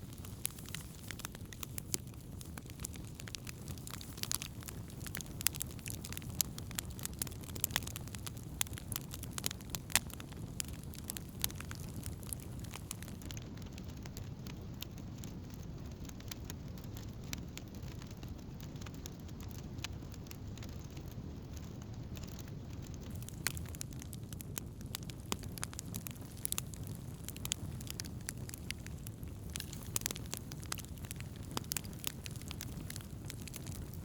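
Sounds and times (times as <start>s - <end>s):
crackles and pops of burning wood: 0.0s - 34.0s
low rumble of flames: 0.0s - 34.0s.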